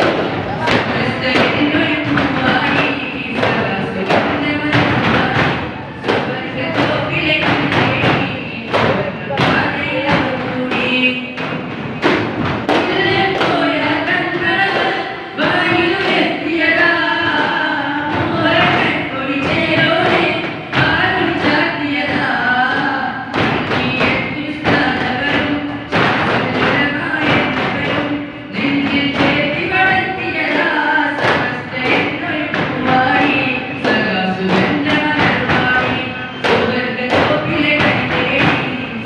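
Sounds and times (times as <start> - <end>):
frame drums struck in rhythm: 0.0 - 39.0
people singing: 0.0 - 39.0.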